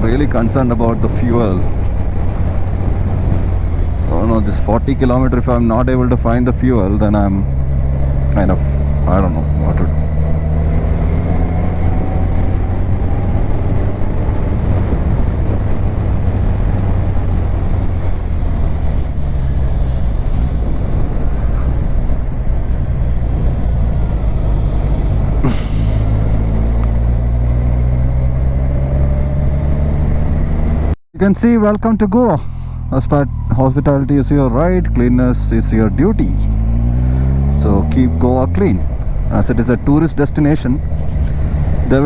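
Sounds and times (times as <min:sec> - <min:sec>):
motorcycle engine droning: 0:00.0 - 0:42.0
wind and road noise: 0:00.0 - 0:42.0.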